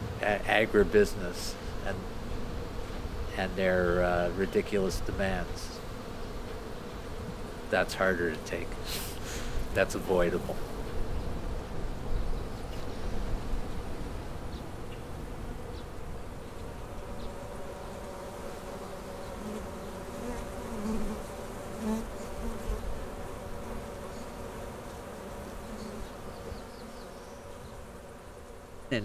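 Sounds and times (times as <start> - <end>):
bee flying past microphone: 0.0 - 28.9
bee swarm buzzing: 0.0 - 29.0.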